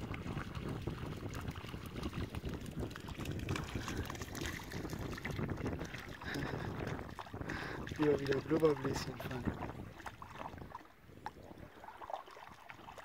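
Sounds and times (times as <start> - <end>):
dog splashing through water: 0.0 - 10.8
wind rumbling on microphone: 0.0 - 13.0.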